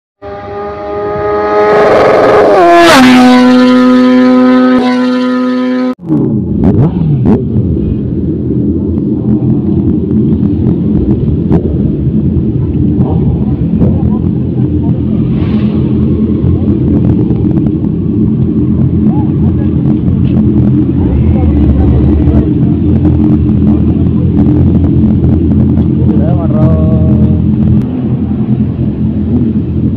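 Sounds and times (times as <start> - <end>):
engine rev sound effect with whoosh: 0.2 - 29.9
motorcycle engines revving: 0.2 - 29.9.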